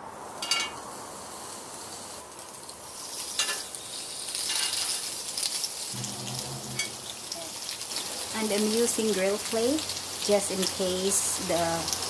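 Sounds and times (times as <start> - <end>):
fish sizzling on a grill plate: 0.3 - 12.0.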